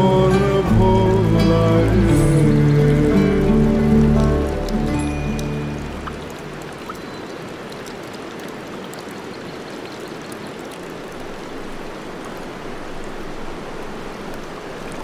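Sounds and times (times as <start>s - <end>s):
water rushing along a boat: 0.0s - 15.0s.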